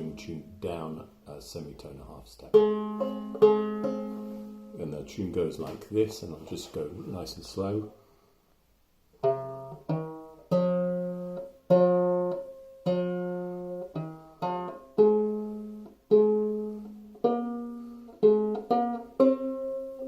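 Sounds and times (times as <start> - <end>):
banjo plucked melody: 0.0 - 8.0, 9.0 - 20.0.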